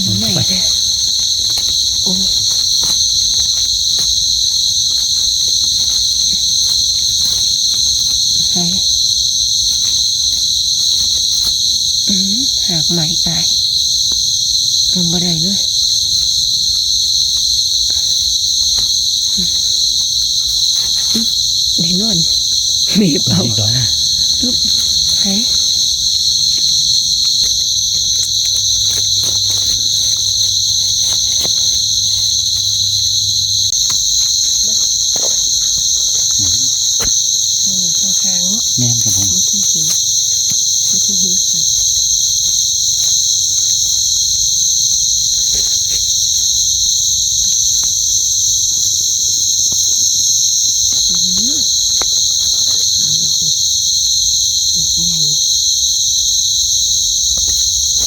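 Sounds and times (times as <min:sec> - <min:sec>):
crickets trilling: 0:00.0 - 0:58.0
insects droning: 0:00.0 - 0:58.0.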